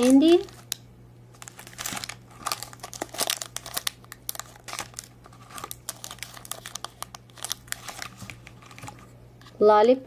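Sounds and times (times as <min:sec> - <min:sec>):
plastic wrappers crinkling: 0:00.0 - 0:09.1.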